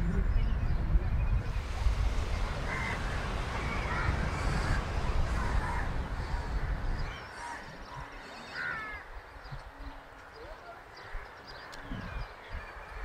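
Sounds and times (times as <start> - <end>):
bird calls: 0.0 - 13.0
wind buffeting microphone: 0.0 - 13.0.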